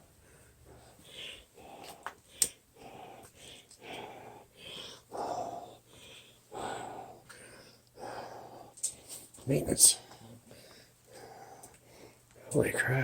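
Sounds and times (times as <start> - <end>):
person breathing heavily: 0.0 - 12.5.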